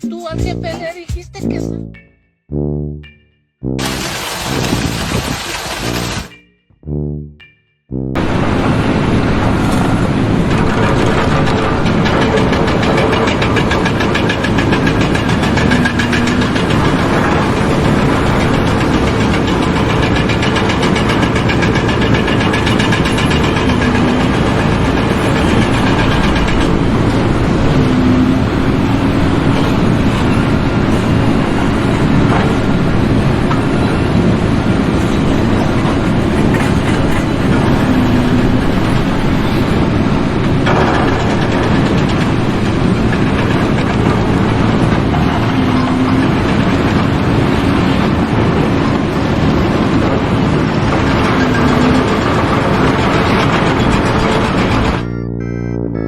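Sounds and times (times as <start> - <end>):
engine running loudly: 3.8 - 6.4, 8.2 - 56.0.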